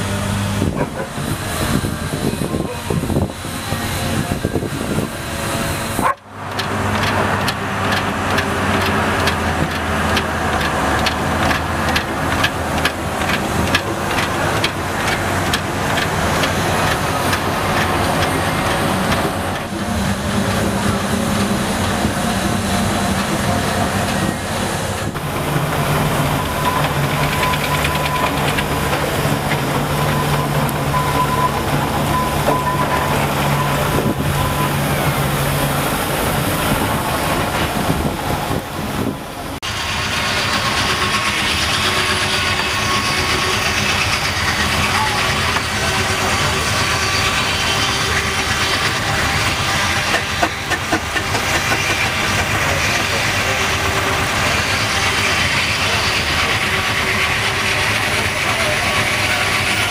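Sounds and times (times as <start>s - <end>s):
steam engine mechanical clatter: 4.2s - 35.6s, 39.0s - 59.9s.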